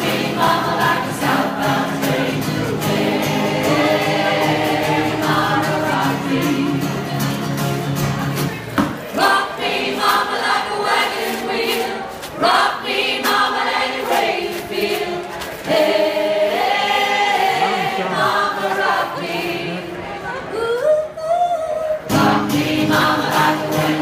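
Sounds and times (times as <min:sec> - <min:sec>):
mixed choir singing: 0:00.0 - 0:07.8, 0:09.0 - 0:20.5, 0:22.0 - 0:24.0.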